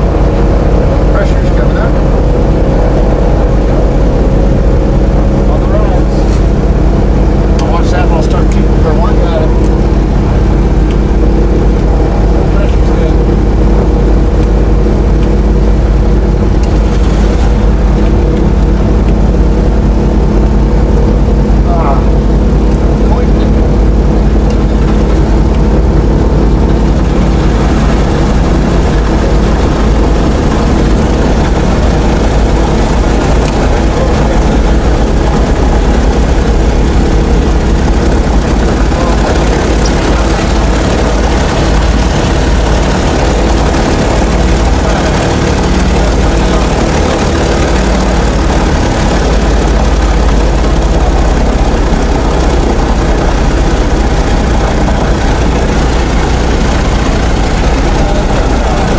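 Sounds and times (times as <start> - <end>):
piston engine idling: 0.0 - 58.9.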